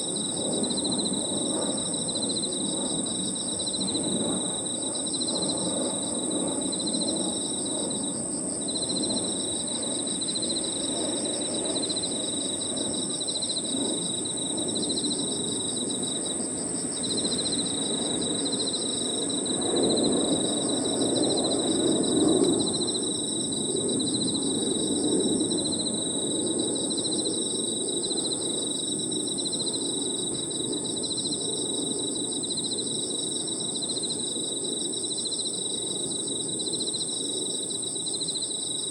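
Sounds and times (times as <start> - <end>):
crickets trilling: 0.0 - 38.9
insects chirping: 0.0 - 38.9.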